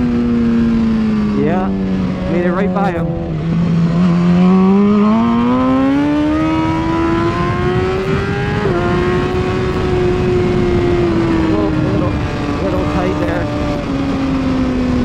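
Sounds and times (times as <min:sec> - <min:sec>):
motorcycle engine revving: 0:00.0 - 0:15.0
wind rushing: 0:01.7 - 0:15.0.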